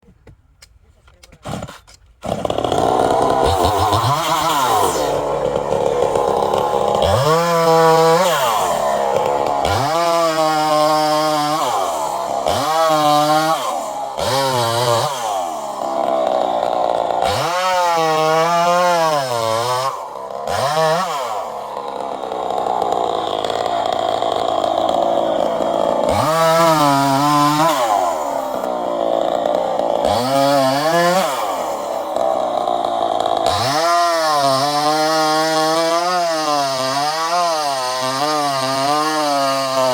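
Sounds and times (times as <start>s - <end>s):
chainsaw cutting wood: 1.2s - 39.9s.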